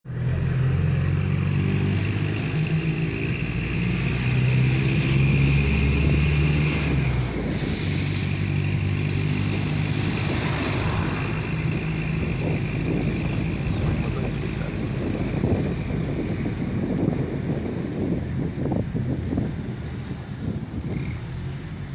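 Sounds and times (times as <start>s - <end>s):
bus diesel engine revving: 0.1s - 21.9s.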